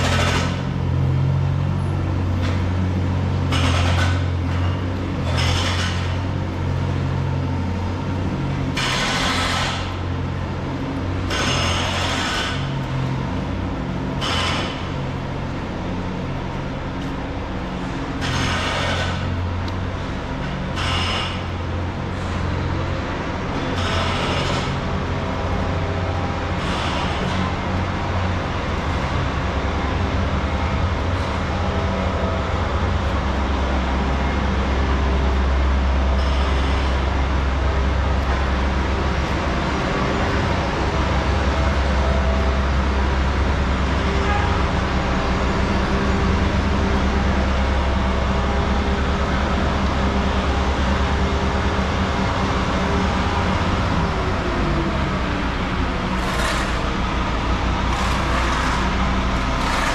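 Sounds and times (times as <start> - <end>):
street traffic: 0.0 - 59.9
vehicle engine rumbling: 0.0 - 59.9.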